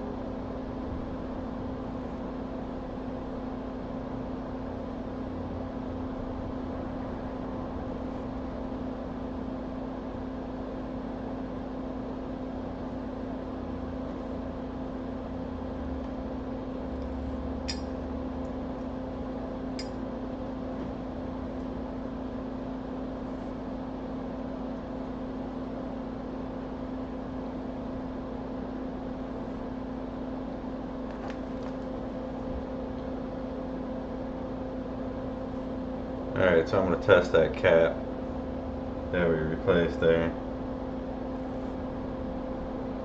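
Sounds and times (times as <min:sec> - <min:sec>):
electrical fan hum: 0:00.0 - 0:43.0.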